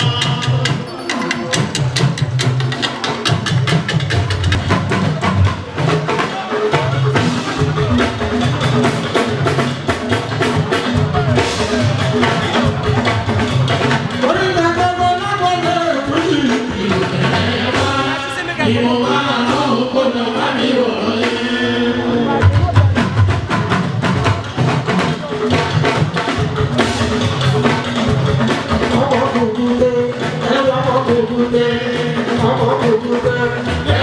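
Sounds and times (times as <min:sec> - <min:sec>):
drum percussion: 0:00.0 - 0:34.0.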